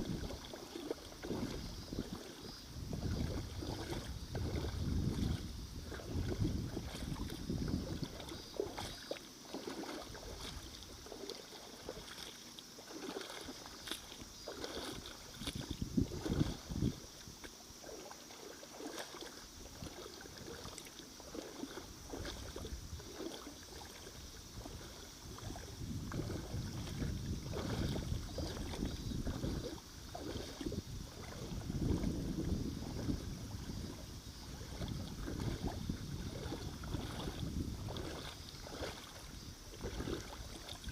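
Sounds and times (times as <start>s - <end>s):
wind rumbling on microphone: 0.0s - 11.2s, 13.3s - 18.0s, 19.6s - 40.9s
water sloshing and splashing: 0.0s - 40.9s.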